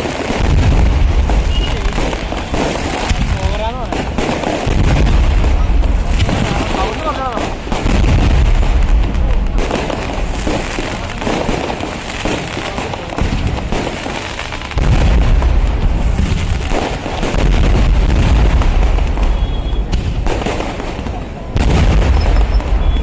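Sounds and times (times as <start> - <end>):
deep fireworks booms: 0.0 - 23.0
fireworks bangs: 0.0 - 23.0.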